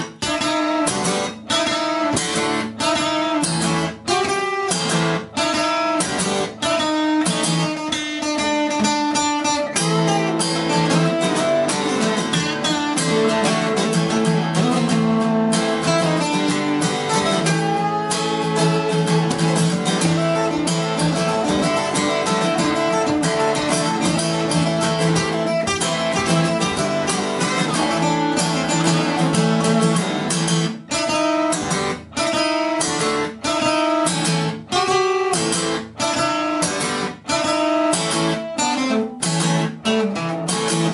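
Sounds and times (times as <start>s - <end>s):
acoustic guitars playing: 0.0s - 40.9s.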